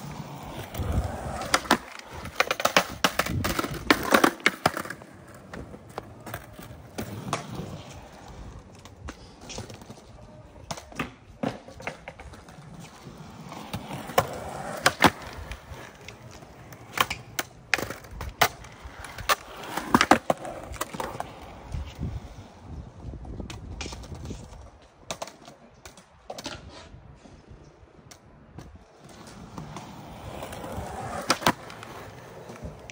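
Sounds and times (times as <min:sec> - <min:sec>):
skateboard clacking on ground: 0:00.0 - 0:22.0, 0:23.0 - 0:27.0, 0:28.0 - 0:32.9
skateboard wheels rolling on concrete: 0:00.0 - 0:32.9.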